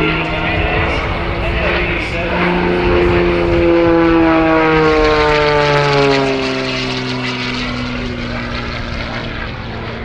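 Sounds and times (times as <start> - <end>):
propeller plane droning past: 0.0 - 10.0.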